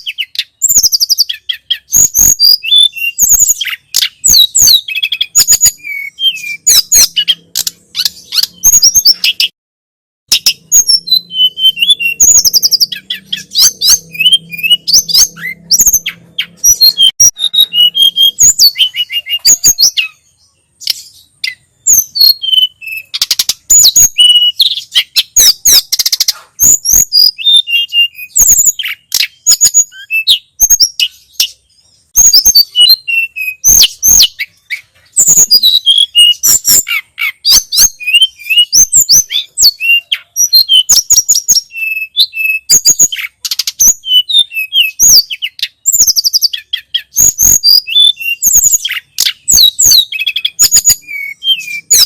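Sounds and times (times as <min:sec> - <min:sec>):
songbird singing: 0:00.0 - 0:09.6, 0:10.3 - 0:52.0.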